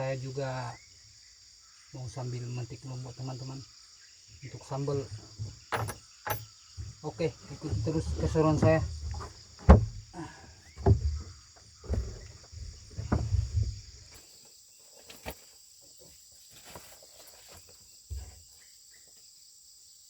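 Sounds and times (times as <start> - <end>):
crickets and insects droning: 0.0 - 20.0.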